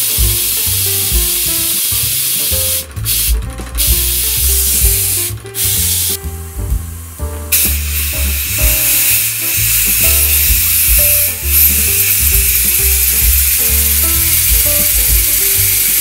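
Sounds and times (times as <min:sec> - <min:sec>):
air hissing from model engine: 0:00.0 - 0:06.2, 0:07.5 - 0:16.0
background music with bass: 0:00.0 - 0:16.0.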